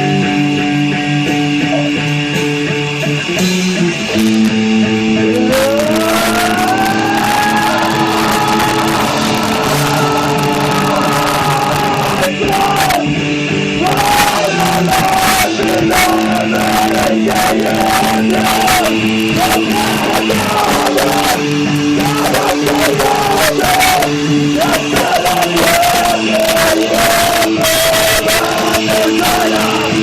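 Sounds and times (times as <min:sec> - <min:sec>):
punk band playing loud: 0:00.0 - 0:30.0
shouted vocals: 0:05.3 - 0:13.2, 0:13.8 - 0:30.0.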